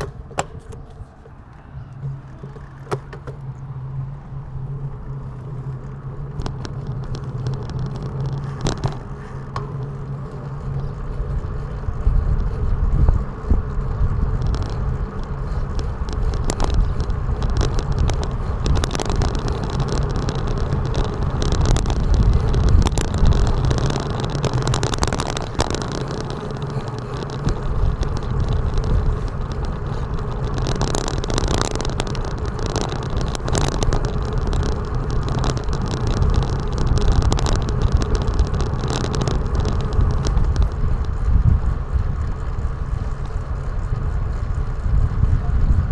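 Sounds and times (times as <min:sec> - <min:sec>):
road noise on wet roads: 0:00.0 - 0:45.9
wind rumble: 0:00.0 - 0:45.9.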